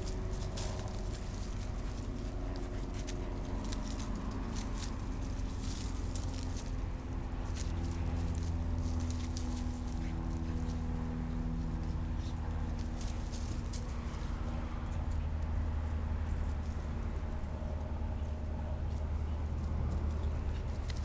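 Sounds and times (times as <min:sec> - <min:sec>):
paws scuffling in leaves: 0:00.0 - 0:21.0
steady low hum: 0:00.0 - 0:21.0.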